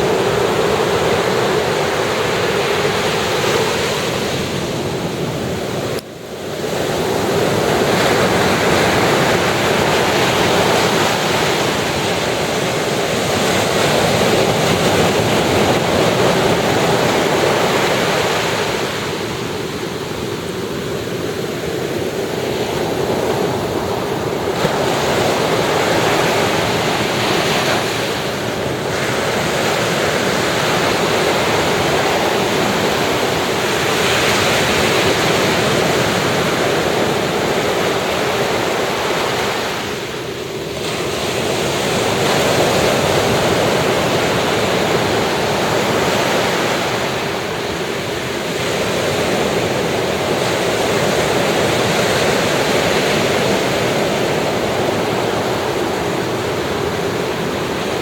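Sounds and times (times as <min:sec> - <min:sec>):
ocean surf breaking: 0:00.0 - 0:58.0.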